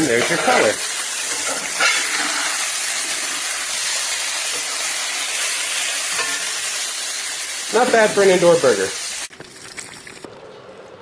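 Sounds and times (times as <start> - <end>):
patty sizzling in a pan: 0.0 - 10.3.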